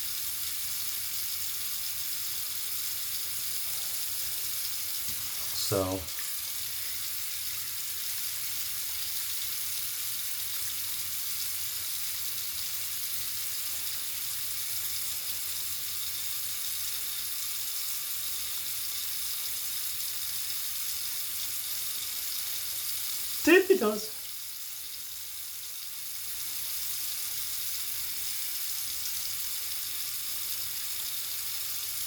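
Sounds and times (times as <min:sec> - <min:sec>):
tap water running into sink: 0:00.0 - 0:32.0.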